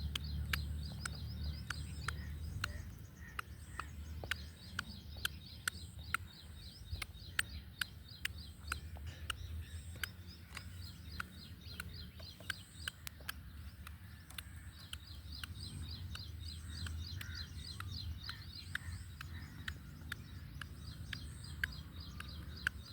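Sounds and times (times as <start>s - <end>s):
bird pecking clicks: 0.0s - 22.9s
high bird chirping: 0.0s - 22.9s.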